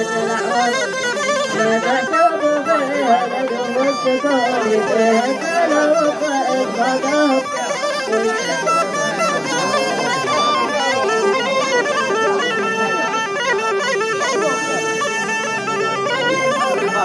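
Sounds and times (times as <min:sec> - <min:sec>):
reedy wind instrument melody: 0:00.0 - 0:17.0.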